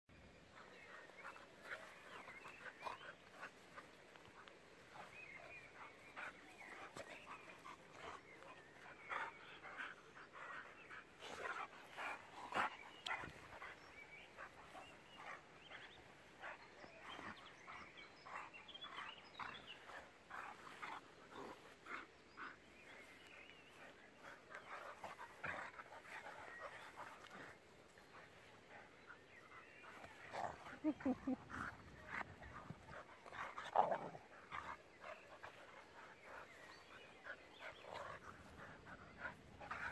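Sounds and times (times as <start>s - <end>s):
dogs play-wrestling noises: 0.4s - 39.9s.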